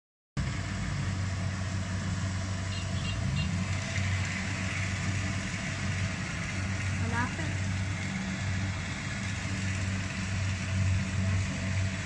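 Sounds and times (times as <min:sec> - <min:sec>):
harvester engine humming: 0:00.4 - 0:12.0.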